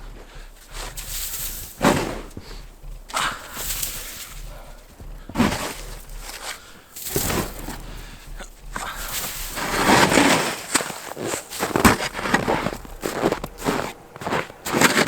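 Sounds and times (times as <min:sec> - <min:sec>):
snow shovel scraping snow: 0:00.0 - 0:15.0.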